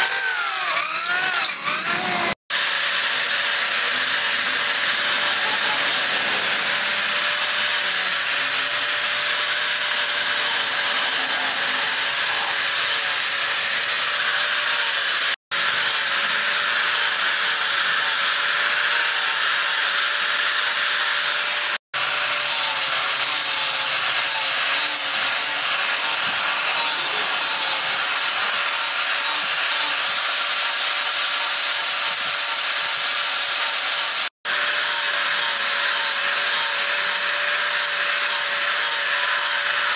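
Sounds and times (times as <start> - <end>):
angle grinder motor whine: 0.0 - 39.9
sanding pad rasping on wood: 0.0 - 39.9.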